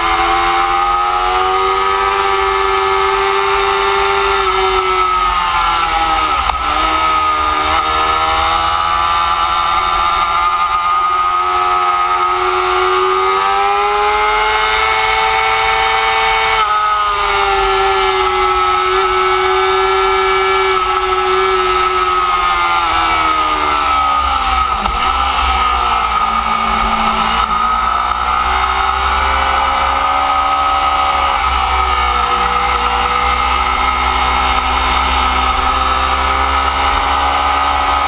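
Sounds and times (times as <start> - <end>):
motorcycle engine running hard: 0.0 - 38.0.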